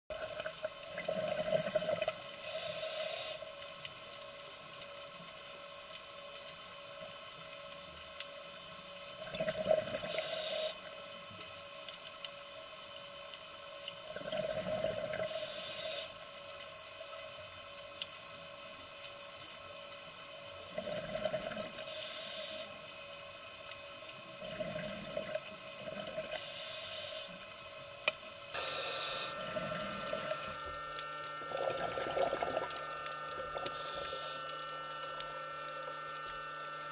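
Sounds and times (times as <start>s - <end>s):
faint steady whine: 0.1s - 36.9s.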